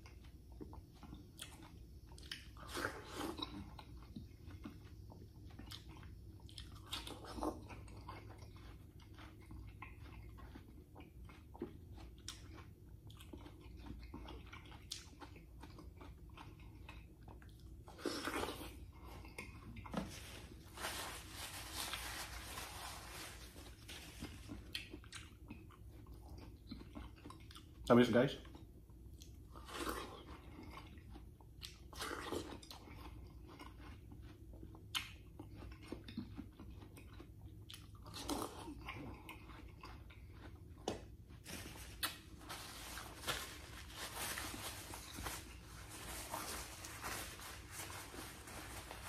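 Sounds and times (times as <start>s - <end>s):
person chewing watermelon: 0.0s - 49.0s.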